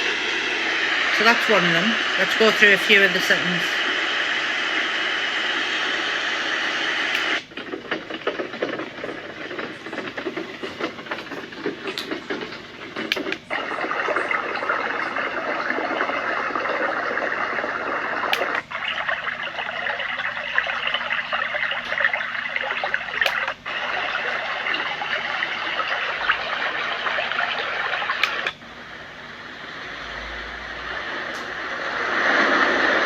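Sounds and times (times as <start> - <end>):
white noise machine hissing: 0.0 - 33.0.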